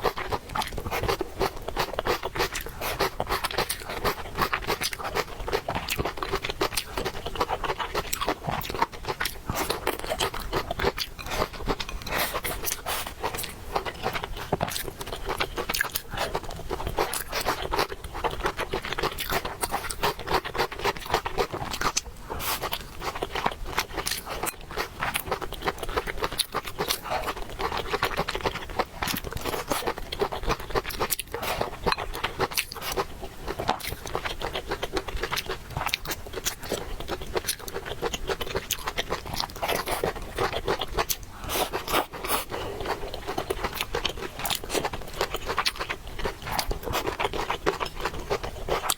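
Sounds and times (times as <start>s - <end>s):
person chewing noodles: 0.0s - 48.9s.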